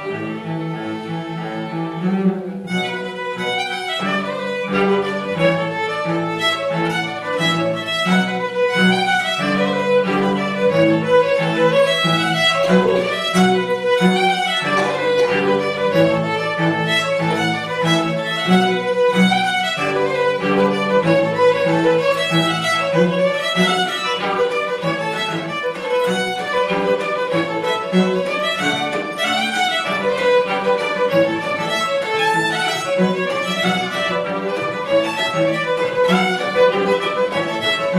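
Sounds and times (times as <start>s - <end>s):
bowed fiddle melody: 0.0s - 37.9s
held lower string notes: 0.0s - 37.9s.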